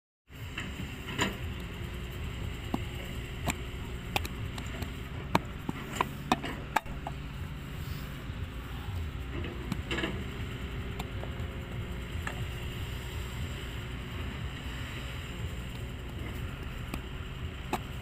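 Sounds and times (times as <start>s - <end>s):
steady low rumble: 0.3s - 18.0s.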